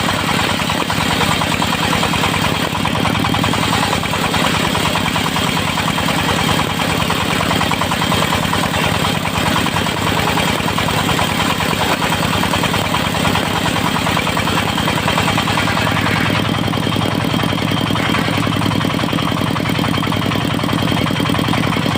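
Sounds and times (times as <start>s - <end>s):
diesel engine running steadily: 0.0s - 21.9s.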